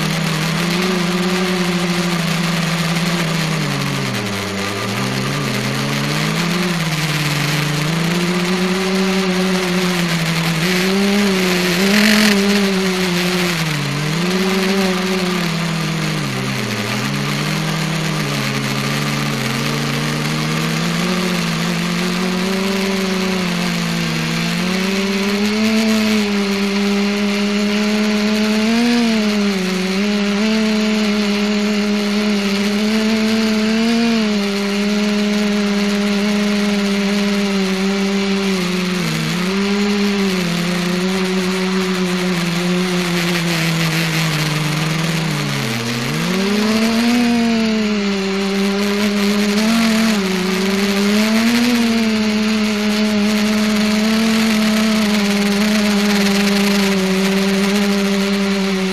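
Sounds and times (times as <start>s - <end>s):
drone propellers buzzing: 0.0s - 58.9s.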